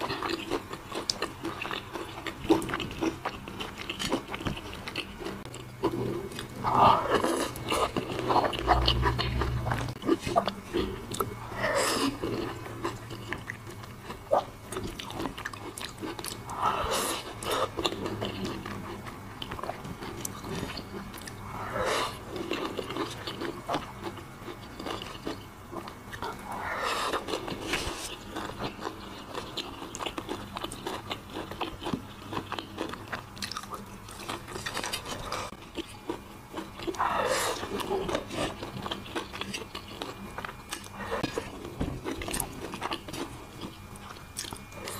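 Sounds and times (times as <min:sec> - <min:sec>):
chewing and biting food: 0:00.0 - 0:44.9.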